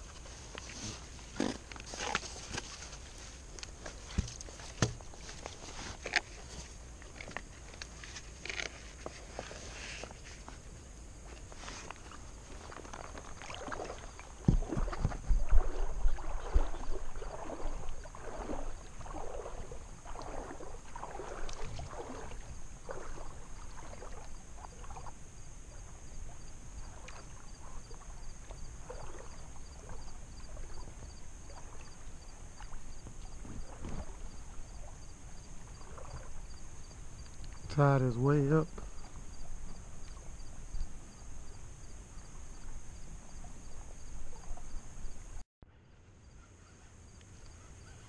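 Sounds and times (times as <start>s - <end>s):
legs sloshing through water: 0.0s - 45.4s.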